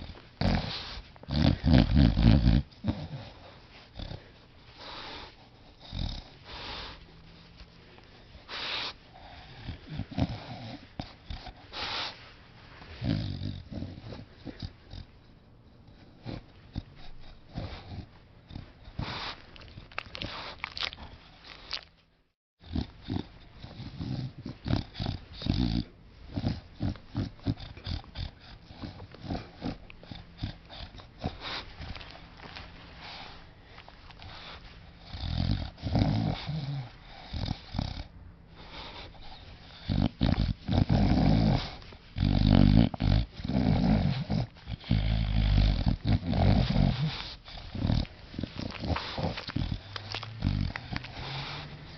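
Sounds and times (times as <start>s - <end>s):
dog snoring: 0.0s - 7.0s, 8.4s - 12.2s, 12.9s - 21.9s, 22.6s - 33.4s, 34.2s - 51.9s.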